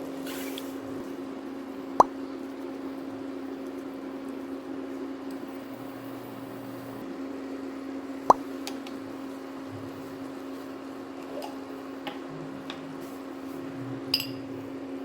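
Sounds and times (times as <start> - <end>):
steady electric hum: 0.8 - 13.0.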